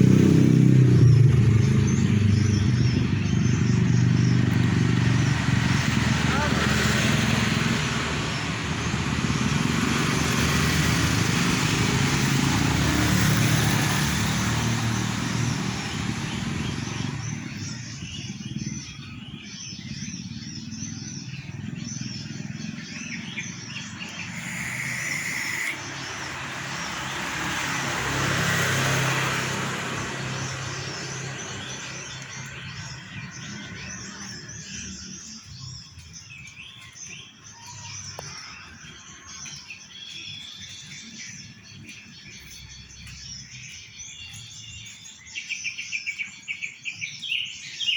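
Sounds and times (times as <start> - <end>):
small birds chirping: 0.0 - 47.9
vehicles passing on road: 0.0 - 47.9.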